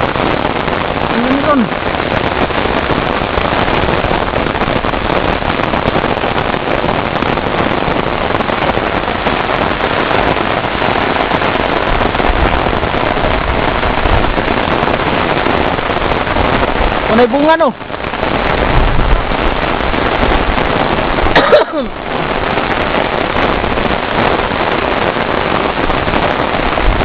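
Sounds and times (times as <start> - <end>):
rain pattering: 0.0 - 27.0.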